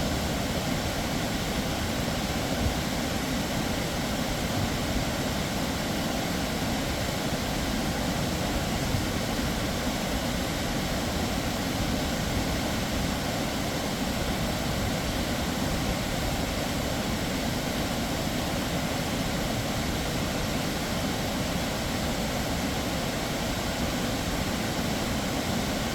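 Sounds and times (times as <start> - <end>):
waterfall roaring: 0.0 - 25.9.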